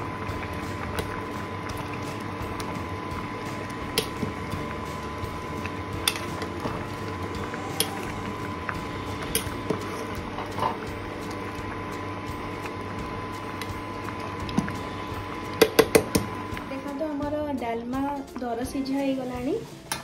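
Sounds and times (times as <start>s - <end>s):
pot bubbling at the boil: 0.0s - 19.0s.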